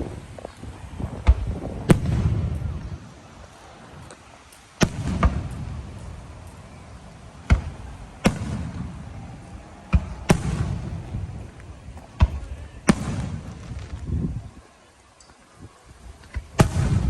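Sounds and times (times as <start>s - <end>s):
fireworks bangs: 0.0s - 14.6s, 16.1s - 17.0s.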